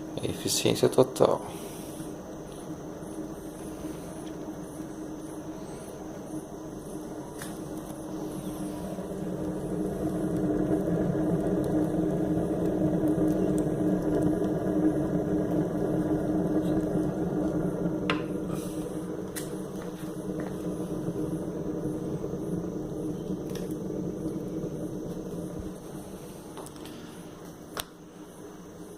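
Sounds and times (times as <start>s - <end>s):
stove fire humming: 0.0s - 28.9s
fire crackling ticks: 0.2s - 28.0s.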